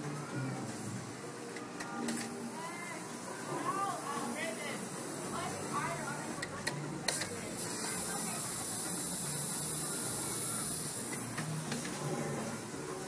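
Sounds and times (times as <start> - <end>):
faint background chatter: 0.0 - 13.0.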